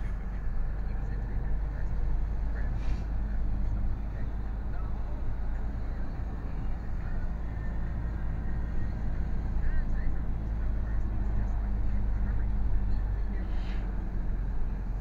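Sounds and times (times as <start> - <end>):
lorry diesel engine drone: 0.0 - 15.0
road noise: 0.0 - 15.0.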